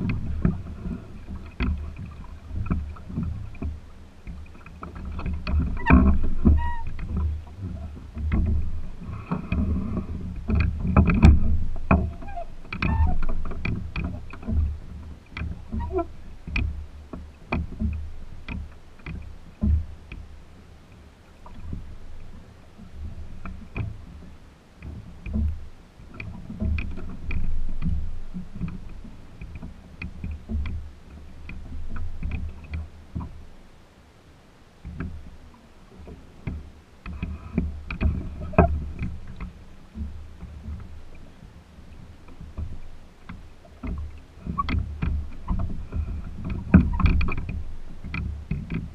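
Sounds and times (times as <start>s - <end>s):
boat rigging clicks and knocks: 0.0s - 48.9s
water swishing along hull: 0.0s - 48.9s.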